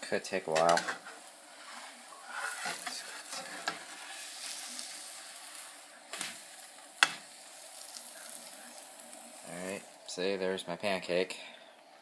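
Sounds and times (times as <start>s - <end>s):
batter sizzling in a skillet: 0.0s - 11.4s.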